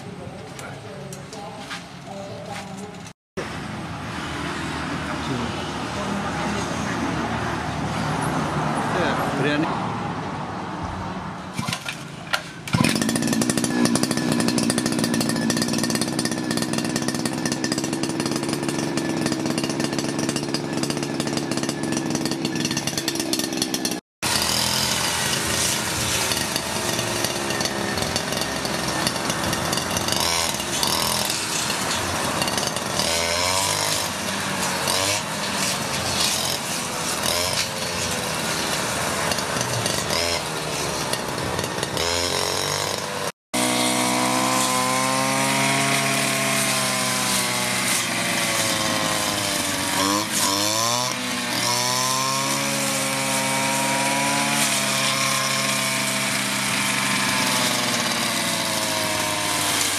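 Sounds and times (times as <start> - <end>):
blade cutting grass and weeds: 11.5 - 59.9
brush cutter engine revving: 11.6 - 59.9.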